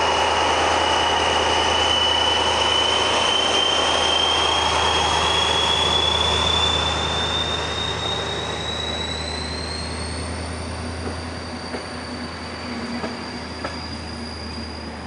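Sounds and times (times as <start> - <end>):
diesel locomotive rumble: 0.0 - 15.0
high whine rising in pitch: 0.0 - 15.0.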